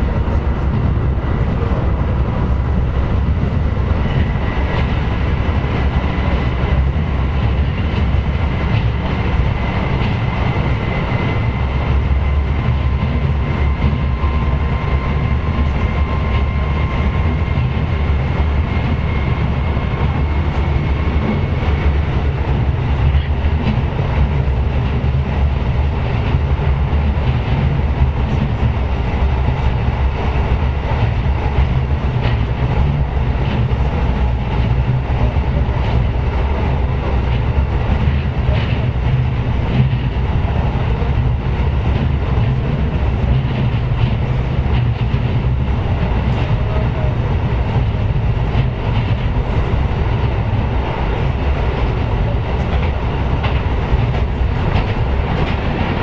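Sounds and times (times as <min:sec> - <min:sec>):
railcar rumbling on rails: 0:00.0 - 0:56.0.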